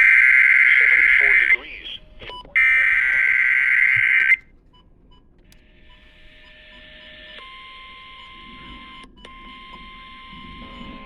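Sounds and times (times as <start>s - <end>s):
faint steady electronic tones: 0.0s - 11.0s.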